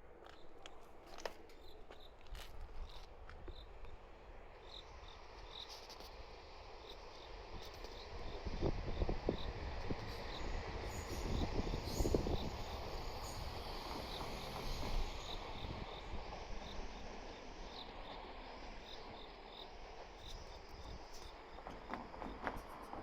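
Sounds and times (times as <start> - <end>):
crickets chirping: 1.6 - 22.9.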